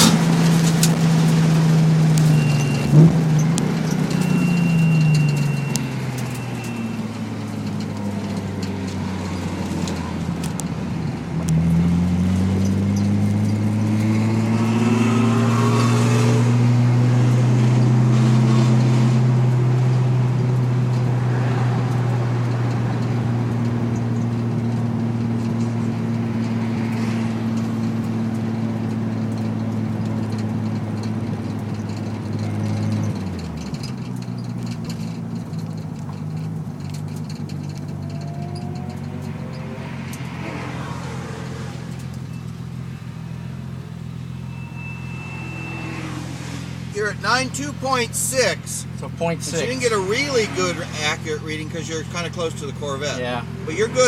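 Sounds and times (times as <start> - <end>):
car engine revving on track: 0.0 - 54.0.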